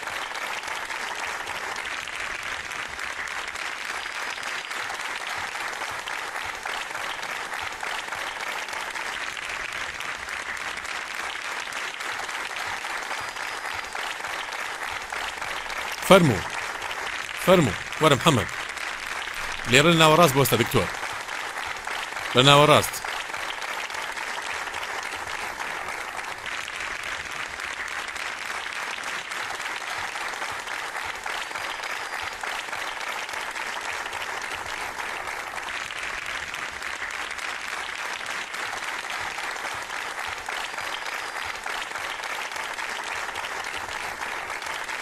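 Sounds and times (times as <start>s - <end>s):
audience applauding: 0.0s - 45.0s.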